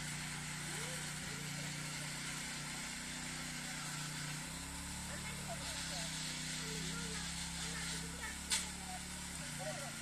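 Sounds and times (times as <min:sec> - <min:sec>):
tiller engine running: 0:00.0 - 0:10.0.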